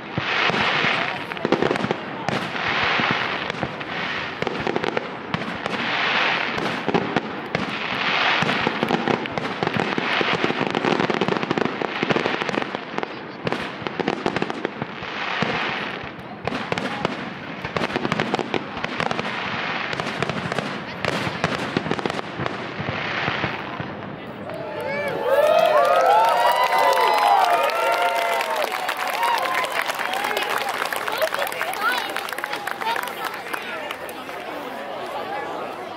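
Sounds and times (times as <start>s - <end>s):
fireworks bangs and crackles: 0.0s - 35.9s.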